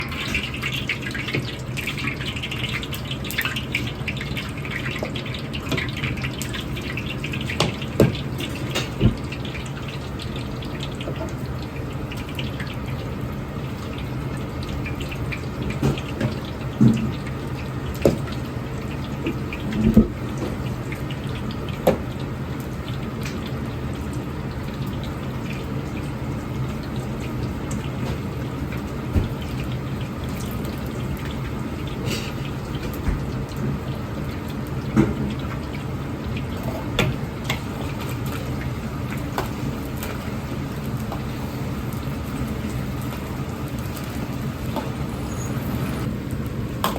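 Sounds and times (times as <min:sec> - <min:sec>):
water running from a tap: 0:00.0 - 0:46.9.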